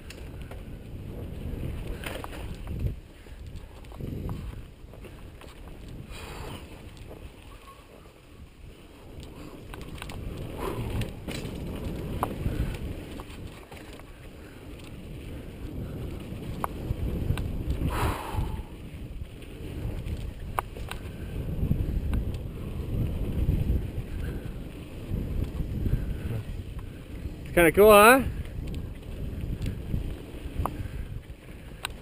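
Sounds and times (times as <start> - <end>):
bike clicks and knocks over bumps: 0.0 - 32.0
bike trail chatter: 0.0 - 32.0
wind buffeting: 0.0 - 32.0.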